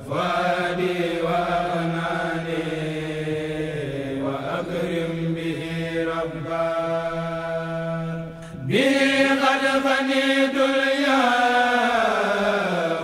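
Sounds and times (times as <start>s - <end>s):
devotional chant with long notes: 0.0s - 13.0s.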